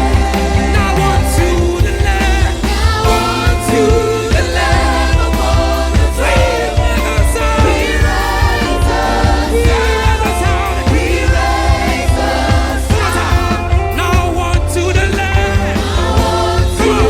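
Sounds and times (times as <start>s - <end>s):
gospel choir singing: 0.0s - 17.0s
live band with bass and drums: 0.0s - 17.0s.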